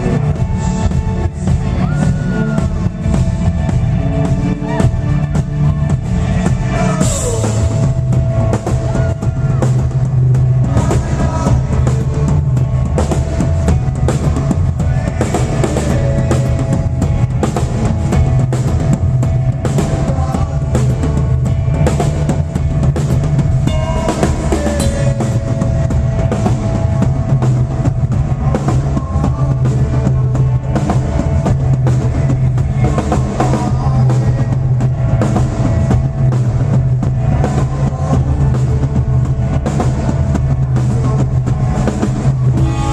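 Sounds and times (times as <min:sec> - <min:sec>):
band playing loudly: 0:00.0 - 0:42.9
heavy bass line: 0:00.0 - 0:42.9.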